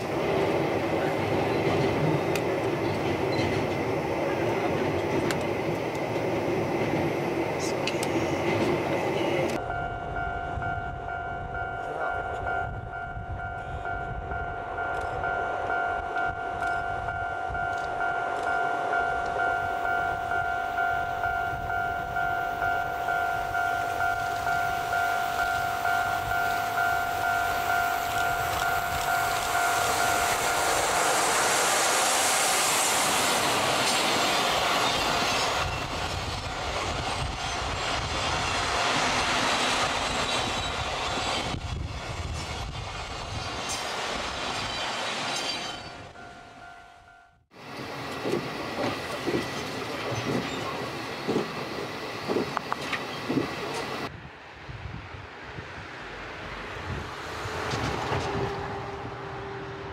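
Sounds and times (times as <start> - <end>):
train passing: 0.0 - 59.9.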